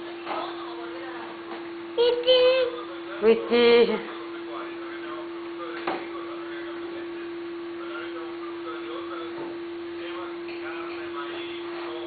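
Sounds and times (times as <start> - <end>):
faint voices: 0.0 - 12.0
steady hum: 0.0 - 12.0.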